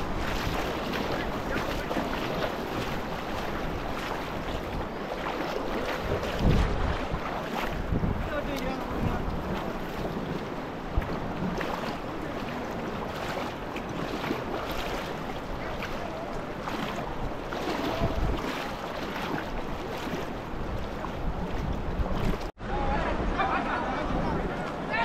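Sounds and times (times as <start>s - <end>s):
faint knocks and splashes: 0.0s - 22.5s
moving water: 0.0s - 25.0s
wind: 0.0s - 25.0s.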